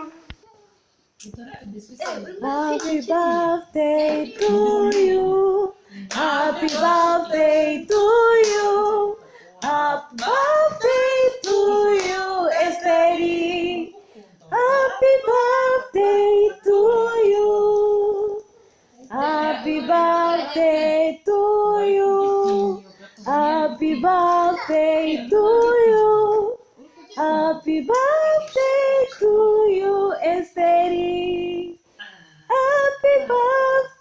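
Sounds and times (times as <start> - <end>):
woman and children singing: 2.0 - 31.8, 32.5 - 34.0.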